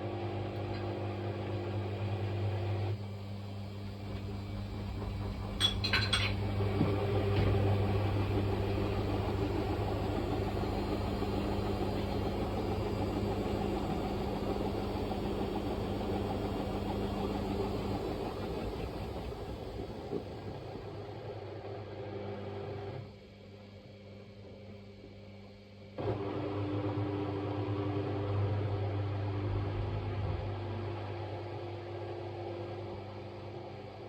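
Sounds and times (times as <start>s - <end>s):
washing machine hum: 0.0s - 34.0s.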